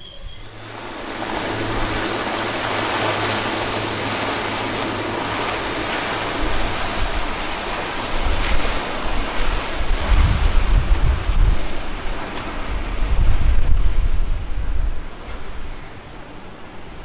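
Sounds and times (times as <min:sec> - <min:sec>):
turboprop engines at takeoff power: 0:00.0 - 0:17.0
wind buffeting the microphone: 0:00.0 - 0:17.0.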